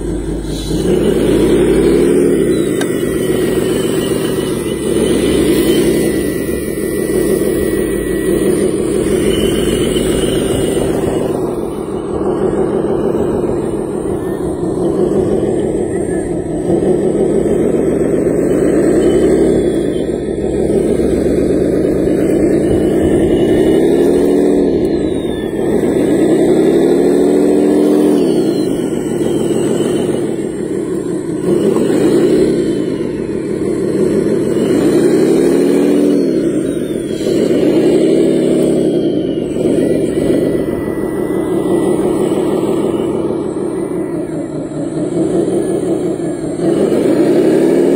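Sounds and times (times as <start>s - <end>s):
loader motor running: 0.0s - 47.9s.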